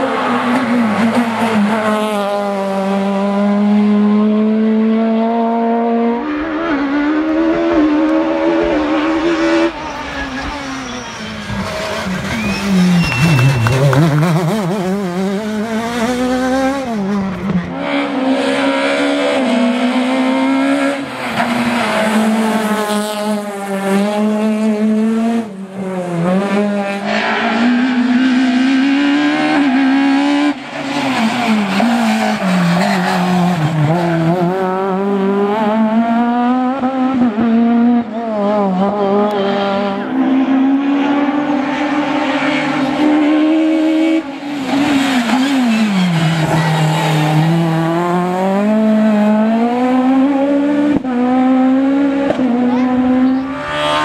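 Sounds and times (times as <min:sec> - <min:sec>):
rally car engine revving hard: 0:00.0 - 0:54.0.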